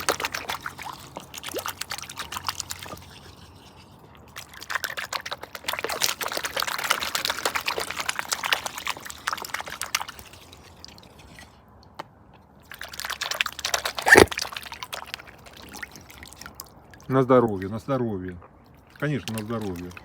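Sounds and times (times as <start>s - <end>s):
swans slurping in water: 0.0s - 11.7s, 12.6s - 20.0s.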